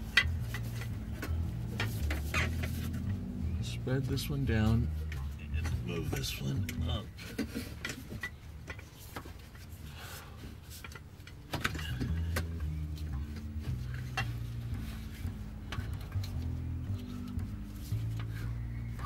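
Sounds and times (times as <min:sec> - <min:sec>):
background music with bass line: 0:00.0 - 0:19.0.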